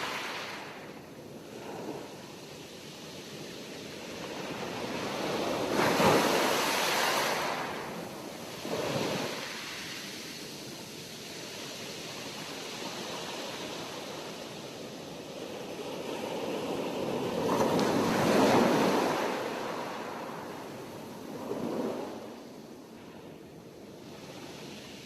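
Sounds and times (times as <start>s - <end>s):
sea waves breaking on shore: 0.0s - 22.6s.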